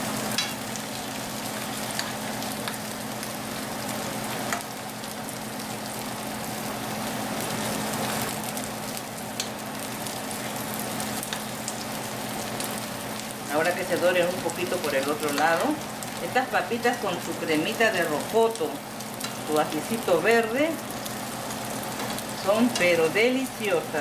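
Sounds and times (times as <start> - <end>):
potatoes sizzling in oil: 0.0 - 24.0.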